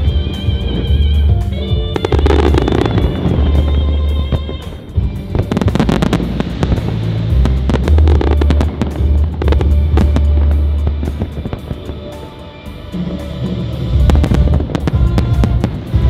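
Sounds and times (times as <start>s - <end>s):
fireworks bangs and crackling: 0.0s - 16.0s
loud music with heavy bass: 0.0s - 16.0s.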